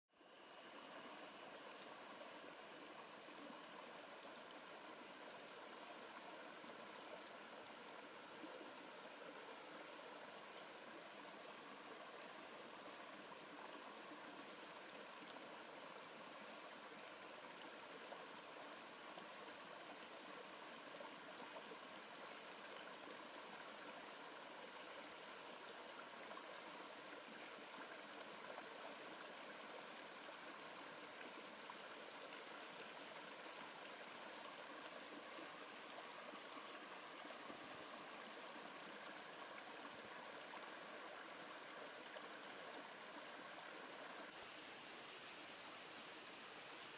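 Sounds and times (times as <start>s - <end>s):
faint rushing hiss of forest: 0.1s - 46.9s.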